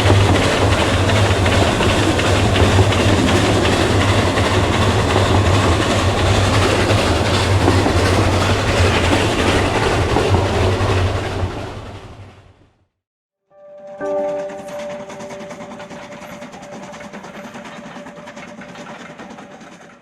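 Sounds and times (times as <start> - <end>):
train rumbling on track: 0.0 - 12.8, 14.0 - 20.0.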